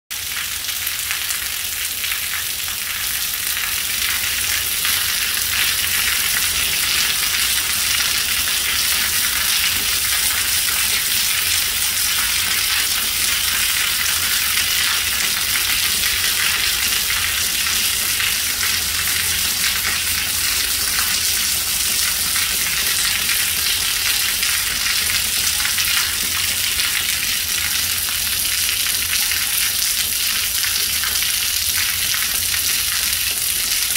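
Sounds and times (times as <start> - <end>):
rain falling: 0.1 - 33.9
water running off a tile roof: 0.1 - 33.9.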